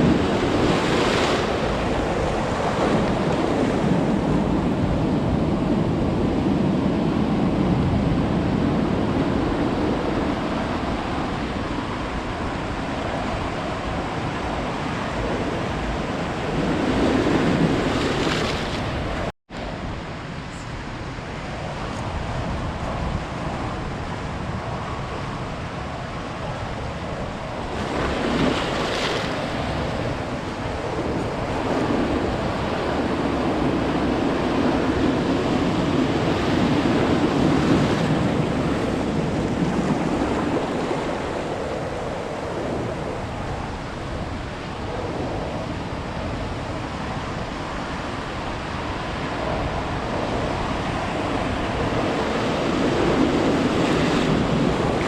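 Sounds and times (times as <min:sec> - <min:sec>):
waves breaking on beach: 0:00.0 - 0:55.0
wind on microphone: 0:00.0 - 0:55.0.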